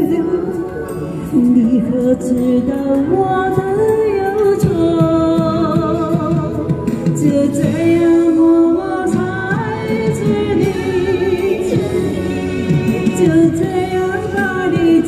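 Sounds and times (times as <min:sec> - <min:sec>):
pop backing track: 0:00.0 - 0:15.0
woman singing into microphone: 0:00.0 - 0:15.0.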